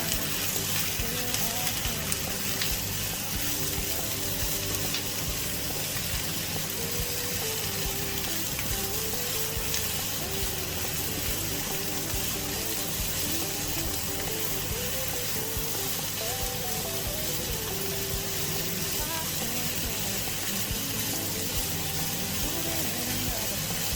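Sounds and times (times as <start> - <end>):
faint background music: 0.0 - 23.9
vegetables sizzling in hot oil: 0.0 - 23.9.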